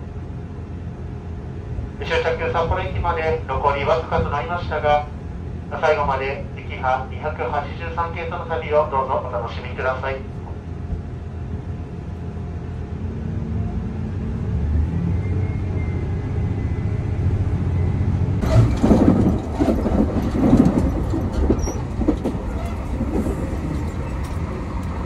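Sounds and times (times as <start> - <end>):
train engine and wheels rumbling: 0.0 - 25.0.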